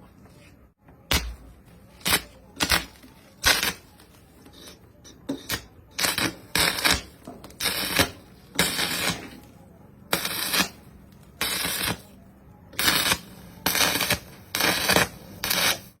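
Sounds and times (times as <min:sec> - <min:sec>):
welder arc crackling: 0:02.0 - 0:09.5, 0:10.1 - 0:16.0.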